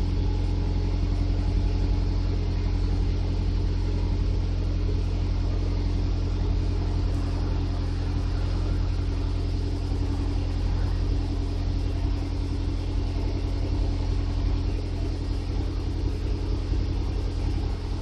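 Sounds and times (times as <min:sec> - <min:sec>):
car engine exhaust idling: 0:00.0 - 0:18.0.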